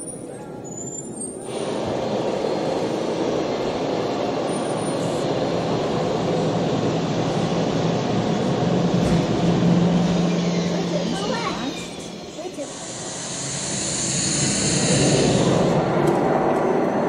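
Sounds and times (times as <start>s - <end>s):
loud rushing noise: 1.4s - 17.0s.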